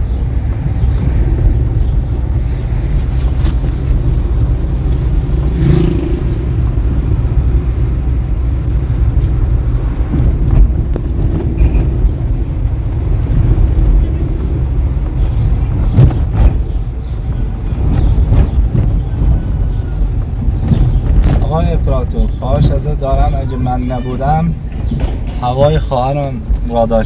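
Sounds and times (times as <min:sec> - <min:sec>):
motor vehicle rumbling: 0:00.0 - 0:27.0.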